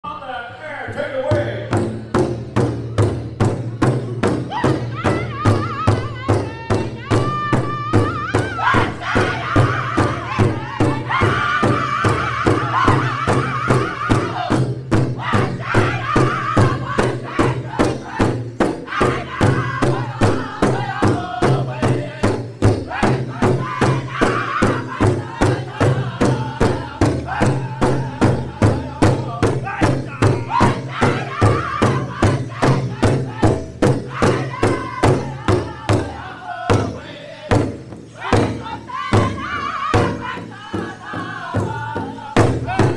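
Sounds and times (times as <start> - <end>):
bass drum beating: 1.4 - 42.9
group singing high-pitched: 4.5 - 42.9.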